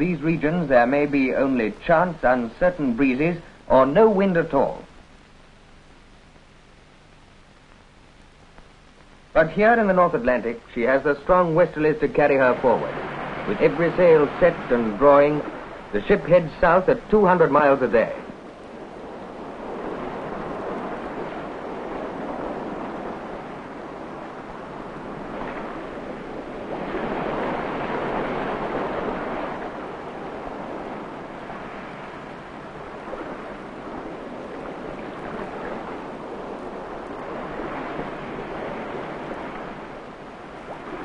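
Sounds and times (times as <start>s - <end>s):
sea waves surging: 0.0s - 41.0s.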